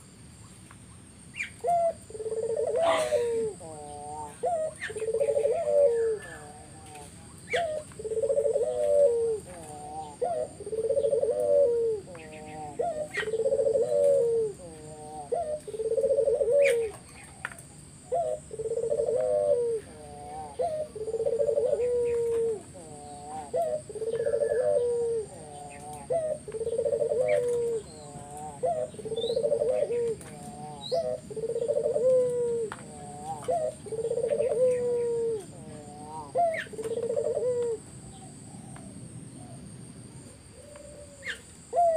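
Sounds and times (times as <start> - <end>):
small birds chirping: 0.0 - 41.9
dove cooing: 1.3 - 41.9.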